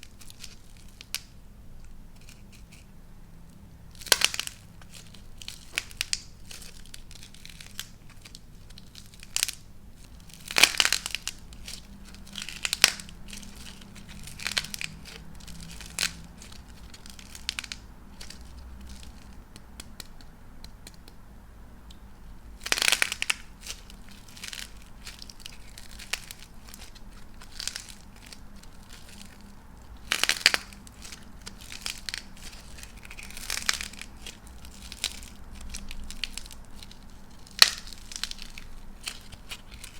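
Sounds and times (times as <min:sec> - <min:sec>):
dried clay crackling and crunching: 0:00.0 - 0:39.9.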